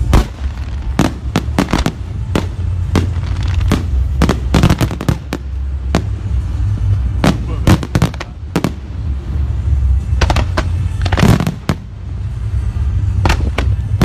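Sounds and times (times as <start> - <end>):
fireworks bangs and cracks: 0.0 - 14.0
low rumble: 0.0 - 14.0.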